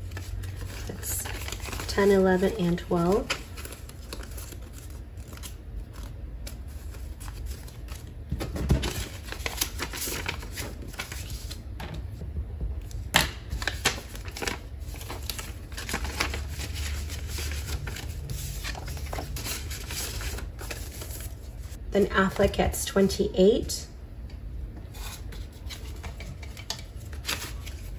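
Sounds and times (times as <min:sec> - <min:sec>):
paper rustling: 0:00.0 - 0:11.6, 0:13.5 - 0:21.8, 0:24.9 - 0:27.9
steady low hum: 0:00.0 - 0:27.9.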